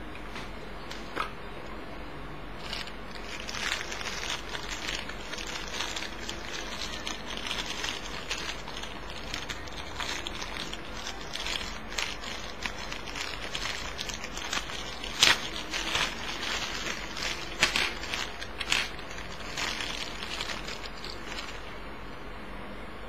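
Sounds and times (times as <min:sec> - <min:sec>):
plastic bag crinkling: 0:02.6 - 0:21.8.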